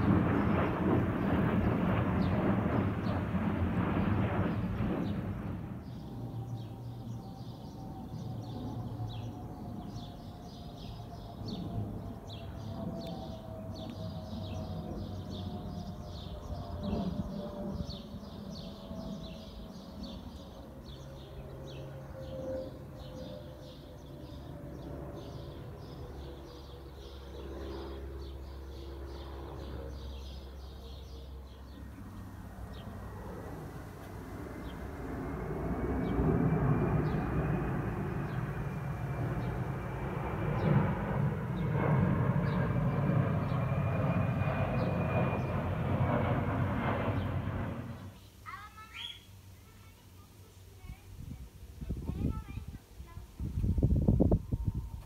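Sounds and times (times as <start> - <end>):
approaching airliner whine: 0.0 - 55.0
jet airliner passing overhead: 0.0 - 55.0
small birds chirping: 4.4 - 55.0.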